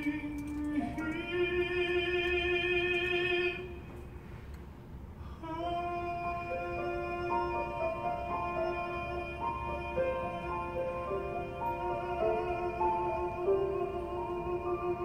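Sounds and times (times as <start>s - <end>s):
man singing into microphone: 0.0s - 3.8s, 5.3s - 15.0s.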